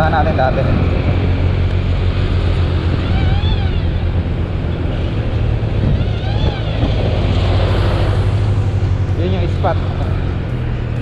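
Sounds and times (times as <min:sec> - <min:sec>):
motorcycle engine running: 0:00.0 - 0:11.0
wind and road hiss: 0:00.0 - 0:11.0.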